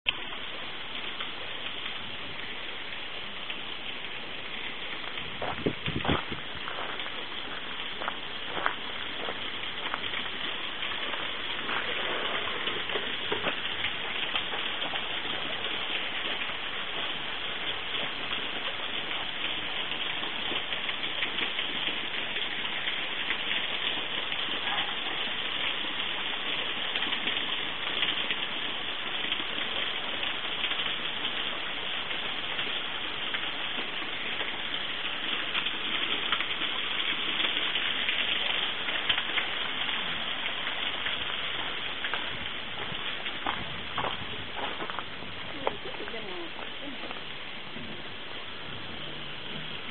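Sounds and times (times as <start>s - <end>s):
waterfall splashing onto rock: 0.1s - 49.9s.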